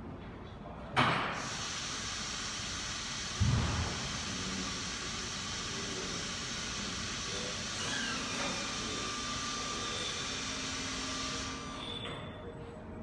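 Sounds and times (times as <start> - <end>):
hydraulic pump motor whirring: 1.4 - 12.4.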